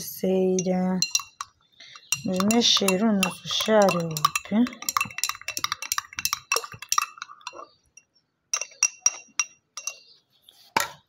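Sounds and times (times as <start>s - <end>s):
spoon clinking against container: 0.5s - 10.2s.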